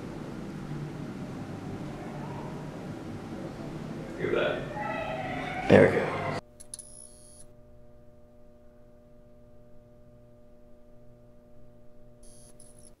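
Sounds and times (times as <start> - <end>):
drone of held tones: 0.0 - 13.0
low hum: 0.0 - 13.0
thin high whine: 0.0 - 13.0.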